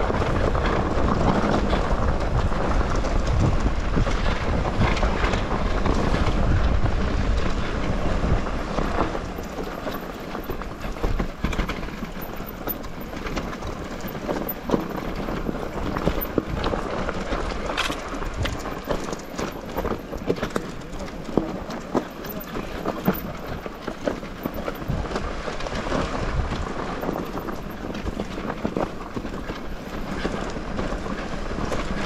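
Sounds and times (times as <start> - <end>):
bike rattling over stones: 0.0 - 32.0
wind rumble on microphone: 0.0 - 32.0.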